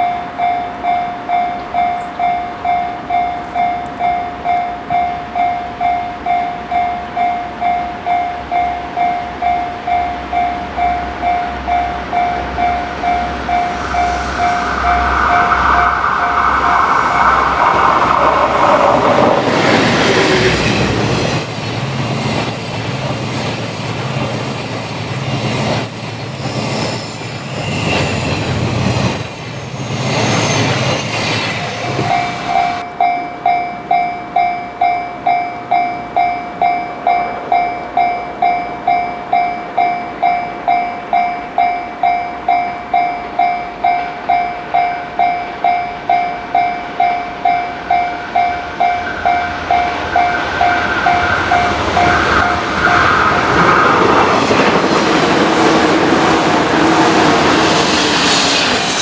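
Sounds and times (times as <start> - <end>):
train coaches rumbling past: 0.0 - 59.0
train running over rails: 0.0 - 59.0.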